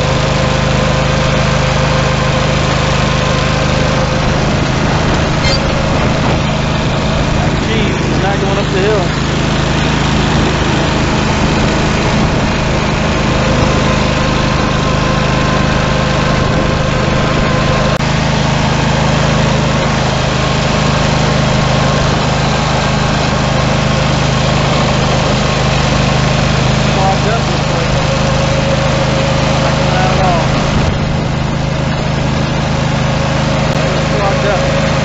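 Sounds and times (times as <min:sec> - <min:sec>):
garden tractor engine running: 0:00.0 - 0:35.0.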